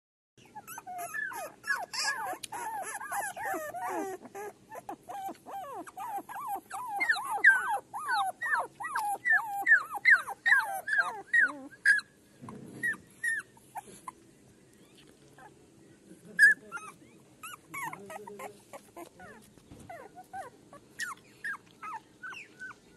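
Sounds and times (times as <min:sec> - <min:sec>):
puppies whimpering and squealing: 0:00.4 - 0:14.2, 0:14.8 - 0:15.6, 0:16.4 - 0:22.9.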